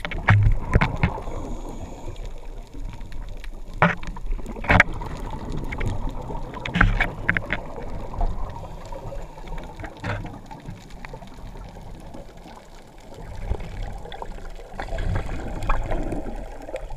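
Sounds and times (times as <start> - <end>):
underwater water rumble: 0.0 - 16.9.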